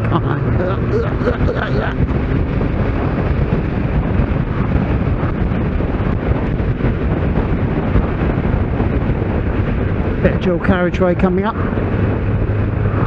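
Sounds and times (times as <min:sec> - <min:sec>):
motorcycle engine running: 0:00.0 - 0:10.8
wind rush on microphone: 0:00.0 - 0:13.0.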